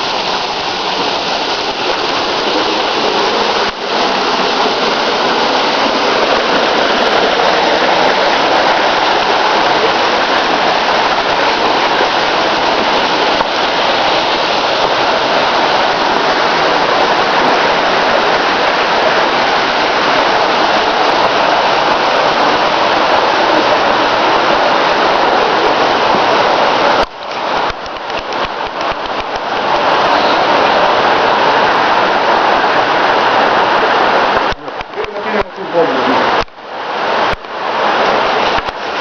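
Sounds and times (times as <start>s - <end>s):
waterfall roar: 0.0s - 39.0s.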